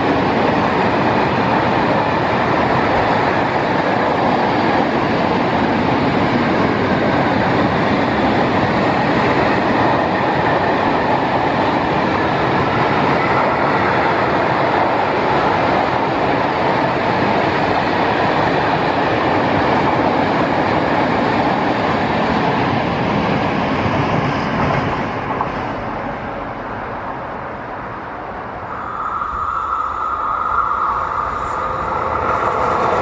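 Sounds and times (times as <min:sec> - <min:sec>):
approaching train high whine: 0:00.0 - 0:33.0
freight train rolling on rails: 0:00.0 - 0:33.0.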